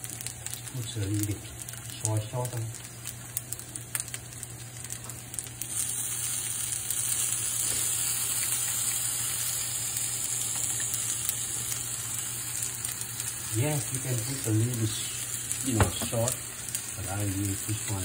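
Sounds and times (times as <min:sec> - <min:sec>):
rice sizzling in a hot pan: 0:00.0 - 0:18.0.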